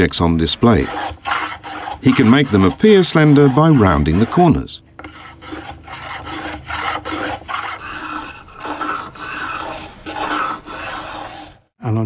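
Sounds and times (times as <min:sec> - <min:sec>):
abrasive block rasping wood: 0:00.0 - 0:11.7.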